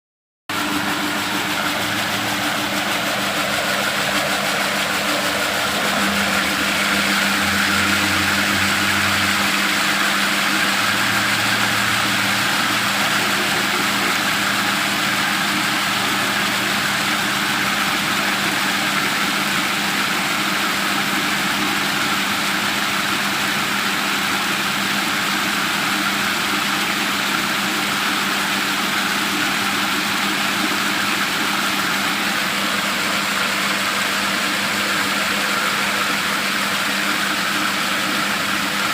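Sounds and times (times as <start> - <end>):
motor humming with whir: 0.5 - 38.9.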